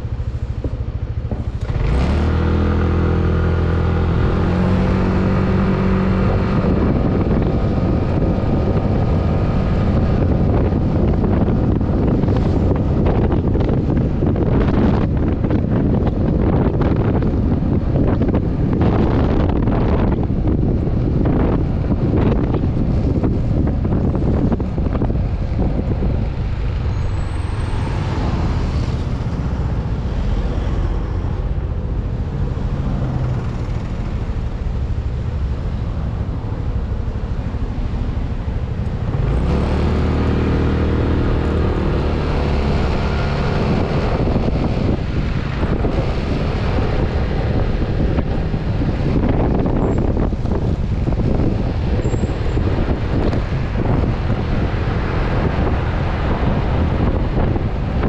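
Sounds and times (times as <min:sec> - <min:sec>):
deeper engine hum: 0:00.0 - 0:58.0
road noise: 0:00.0 - 0:58.0
wind rushing over microphone: 0:00.0 - 0:58.0.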